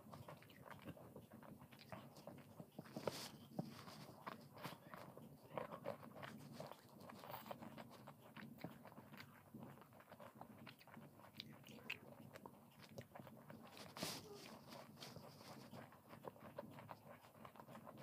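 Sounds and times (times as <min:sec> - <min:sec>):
person chewing syrupy sweet: 0:00.0 - 0:18.0.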